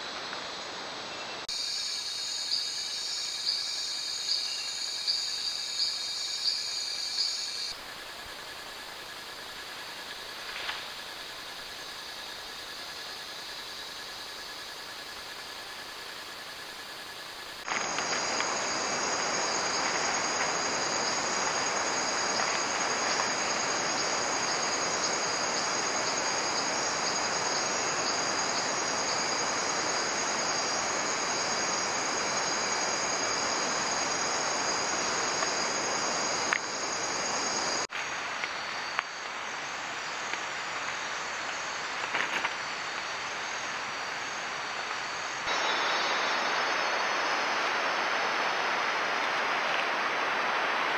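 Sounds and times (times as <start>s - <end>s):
even hiss: 0.0s - 50.9s
jungle insects high trilling: 0.0s - 50.9s.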